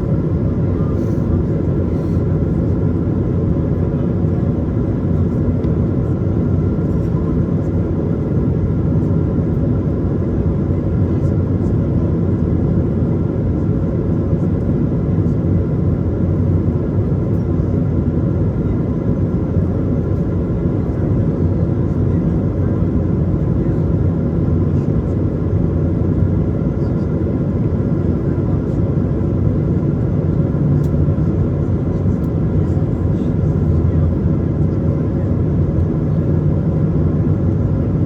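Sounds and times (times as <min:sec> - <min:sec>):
jet engine drone: 0:00.0 - 0:38.0.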